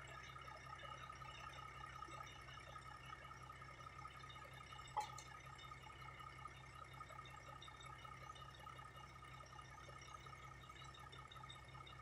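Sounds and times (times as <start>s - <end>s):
faint steady hum: 0.0s - 12.0s
thin steady whine: 0.0s - 12.0s.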